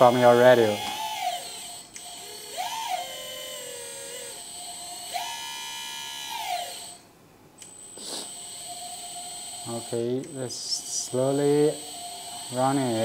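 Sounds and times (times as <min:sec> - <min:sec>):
hydraulic pump motor whining: 0:00.0 - 0:07.0, 0:07.6 - 0:13.0.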